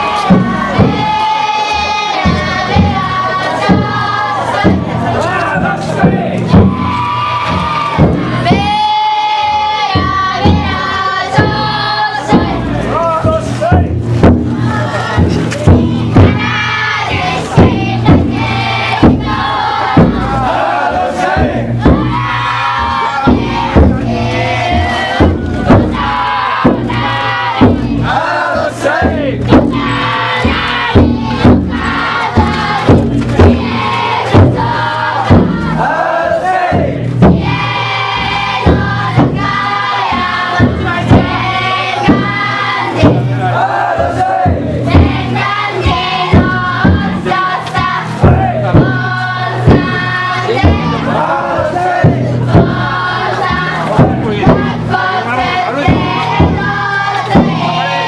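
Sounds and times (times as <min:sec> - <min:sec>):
crowd chanting: 0:00.0 - 0:58.0
taiko drum beating: 0:00.0 - 0:58.0.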